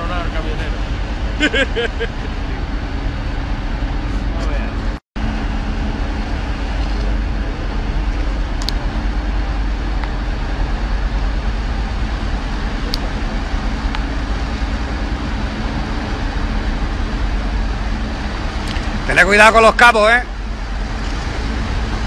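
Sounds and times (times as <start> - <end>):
ferry engines rumbling: 0.0 - 22.0
water churning wash: 0.0 - 22.0.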